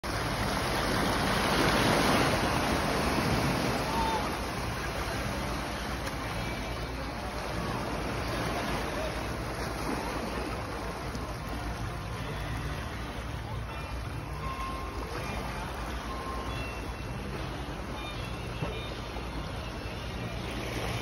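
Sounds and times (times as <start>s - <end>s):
sea water washing through rocks: 0.0s - 18.0s.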